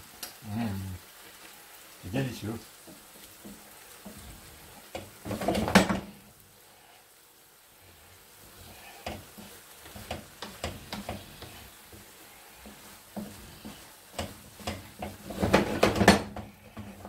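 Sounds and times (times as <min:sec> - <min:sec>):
wooden spoon stirring in frying pan: 0:00.0 - 0:17.0.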